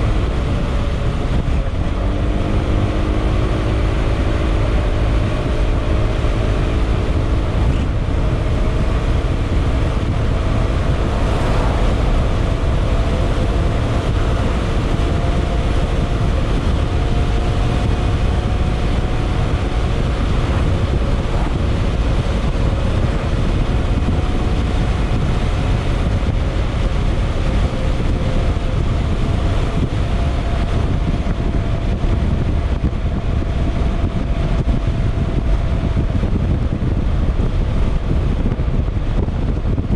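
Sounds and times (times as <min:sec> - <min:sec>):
scooter engine cruising: 0:00.0 - 0:37.6
wind buffeting microphone: 0:00.0 - 0:39.9.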